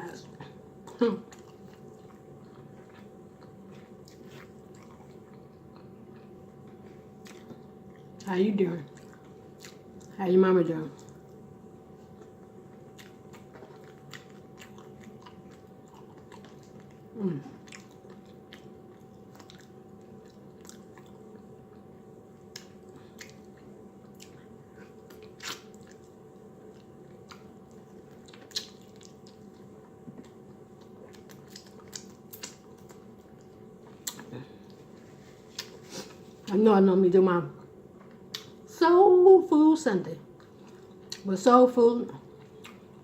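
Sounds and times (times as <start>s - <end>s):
chewing food with crunches: 0.1s - 10.2s, 10.8s - 36.6s, 40.3s - 41.3s, 42.1s - 43.0s.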